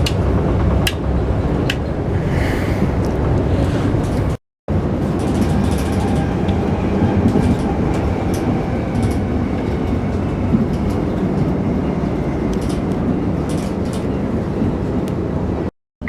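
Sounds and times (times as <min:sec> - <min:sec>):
train wheels rumbling on rail: 0:00.0 - 0:15.7.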